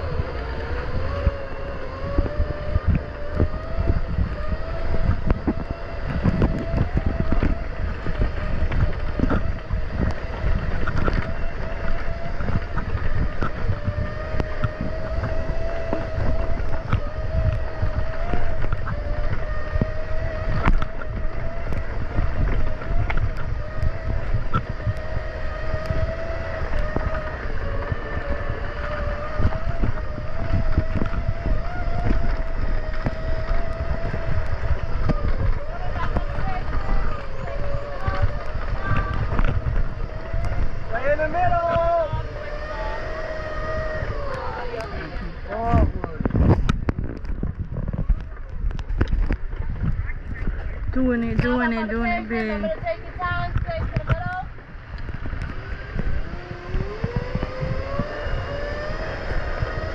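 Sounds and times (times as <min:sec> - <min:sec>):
boat engine droning: 0:00.0 - 0:59.9
wind buffeting microphone: 0:00.0 - 0:59.9.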